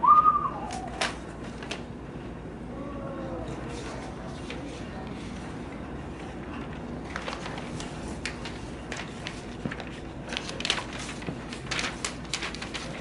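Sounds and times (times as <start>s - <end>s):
low room hum: 0.0s - 13.0s
paper rustling and crackling: 0.7s - 1.9s, 3.4s - 13.0s.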